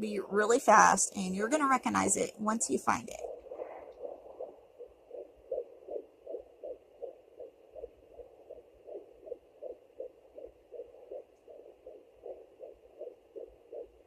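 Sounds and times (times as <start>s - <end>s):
fast fetal heartbeat: 0.0s - 14.0s.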